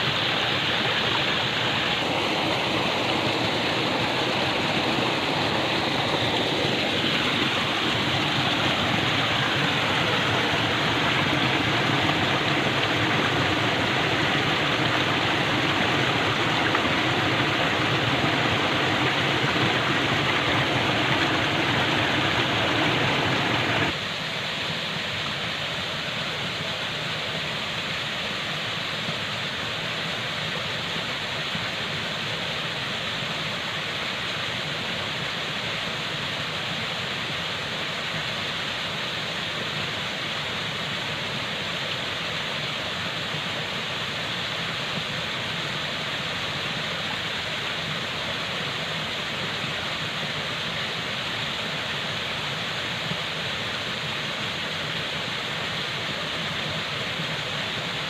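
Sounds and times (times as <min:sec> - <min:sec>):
falling water rushing: 0:00.0 - 0:58.0.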